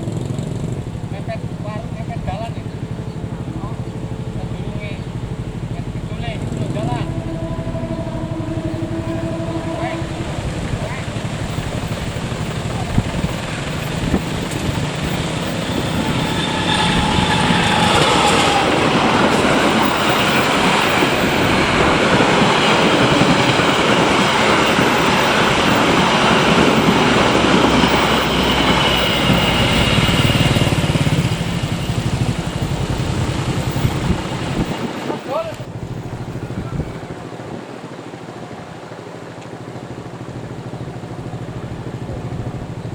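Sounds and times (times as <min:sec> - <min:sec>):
train wheels on rails: 0:00.0 - 0:37.4.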